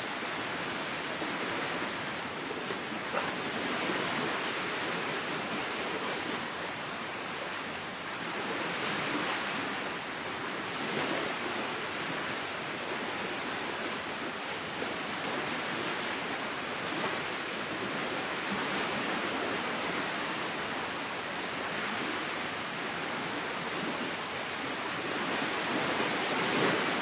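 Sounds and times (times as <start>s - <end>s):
surf rushing on a beach: 0.0s - 27.0s.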